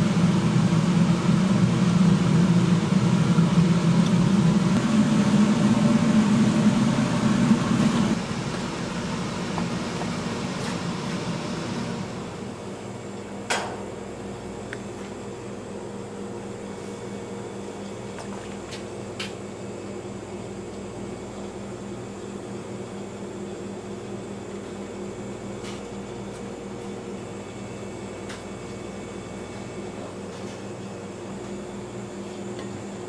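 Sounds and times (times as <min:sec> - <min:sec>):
machine hum: 0:00.0 - 0:32.2.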